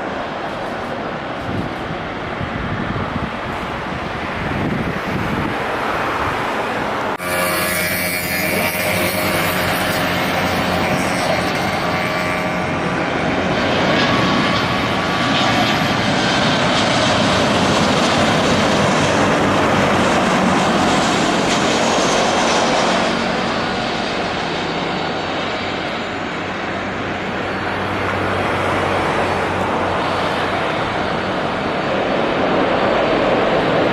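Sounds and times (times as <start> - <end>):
jet engines passing with whine: 0.0 - 33.9.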